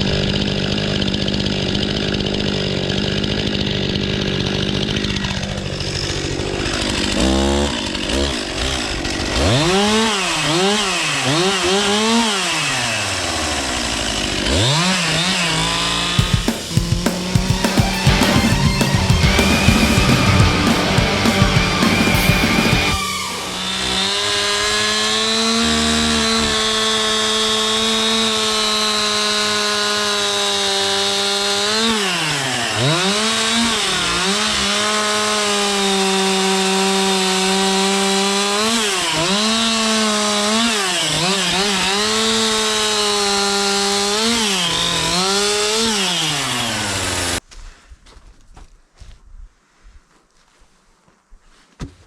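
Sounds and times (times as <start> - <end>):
chainsaw cutting wood: 0.0 - 47.4.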